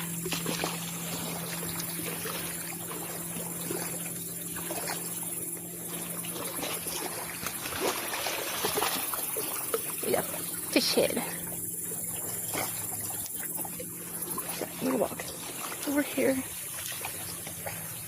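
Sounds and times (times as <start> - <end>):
insects droning: 0.0 - 18.0
small waves lapping: 0.0 - 18.0.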